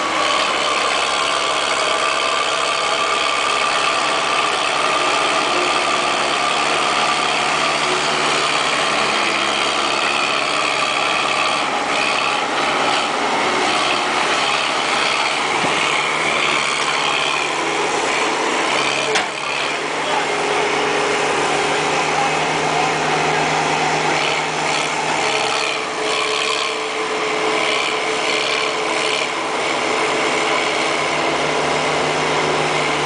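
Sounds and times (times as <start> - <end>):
backhoe engine running: 0.0 - 33.0.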